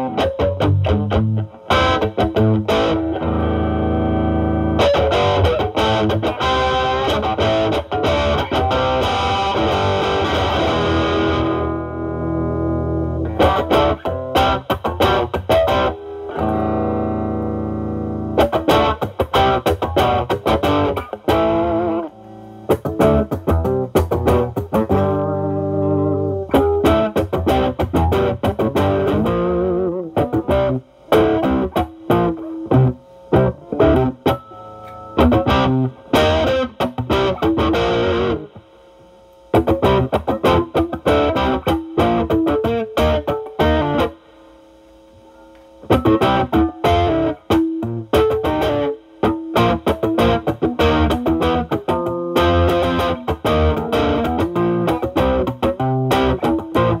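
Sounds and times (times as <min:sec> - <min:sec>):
overdriven electric guitar lead: 0:00.0 - 0:57.0.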